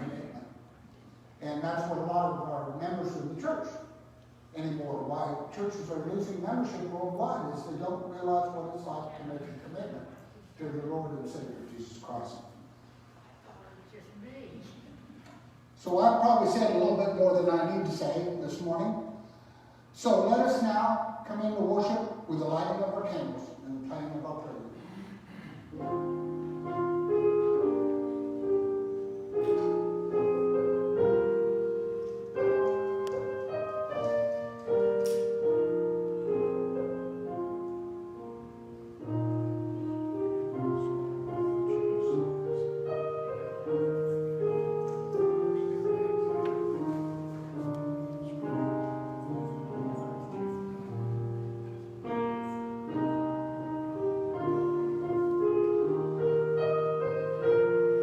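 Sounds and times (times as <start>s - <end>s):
piano playing slow chords: 0.0s - 13.0s, 15.6s - 58.0s.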